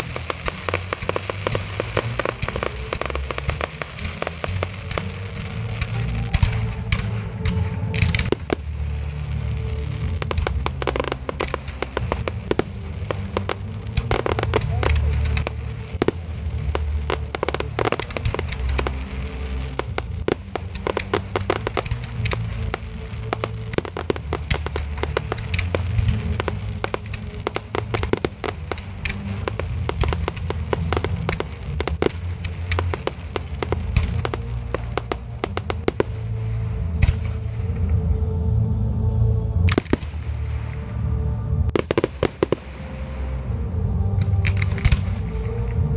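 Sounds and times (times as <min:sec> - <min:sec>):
fireworks bursting and crackling: 0:00.0 - 0:38.0, 0:39.6 - 0:45.8.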